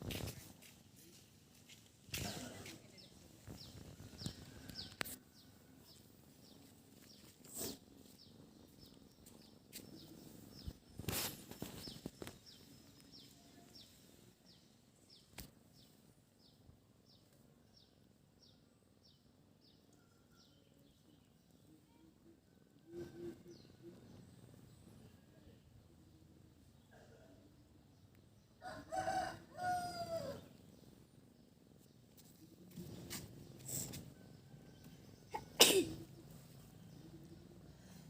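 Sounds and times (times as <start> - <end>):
background noise: 0.0 - 38.0.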